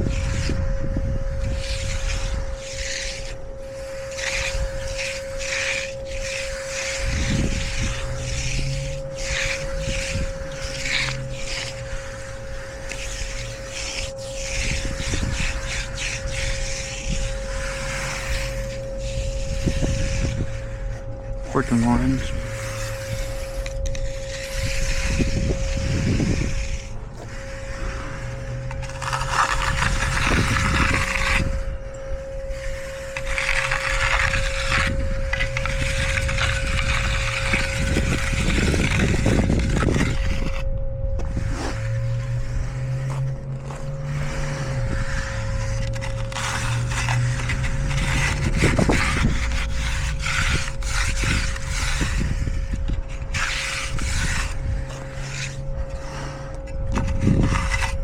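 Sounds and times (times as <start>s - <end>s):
steady hum: 0.0s - 58.0s
tool scraping fresh concrete: 0.0s - 58.0s.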